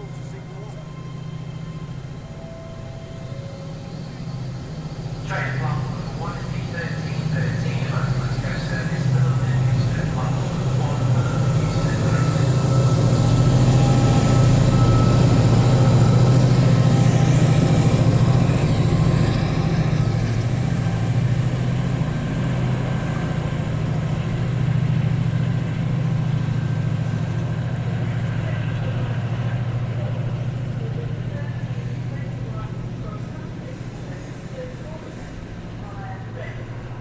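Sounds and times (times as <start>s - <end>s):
diesel locomotive engine droning: 0.0s - 37.0s.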